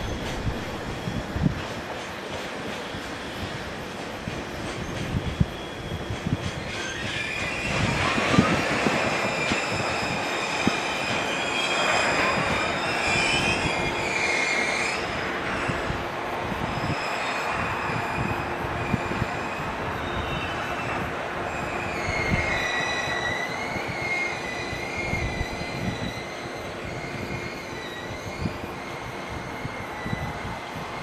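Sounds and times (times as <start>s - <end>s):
train rumble: 0.0s - 31.0s
train wheels squealing: 0.0s - 31.0s.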